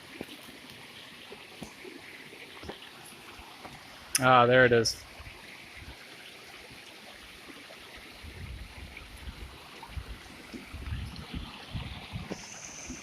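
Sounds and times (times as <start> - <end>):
creek running over rocks: 0.0 - 13.0.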